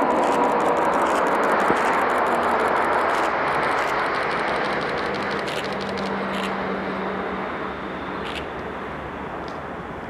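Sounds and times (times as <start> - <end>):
faint engine whine: 0.0 - 10.0
jet engine rush: 0.0 - 10.0.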